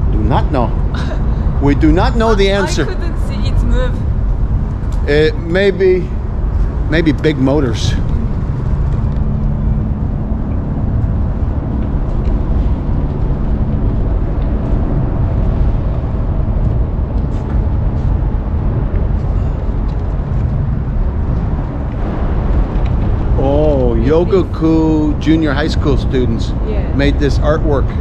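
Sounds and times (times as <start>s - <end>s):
low hum: 0.0s - 28.0s
low mechanical drone: 0.0s - 28.0s.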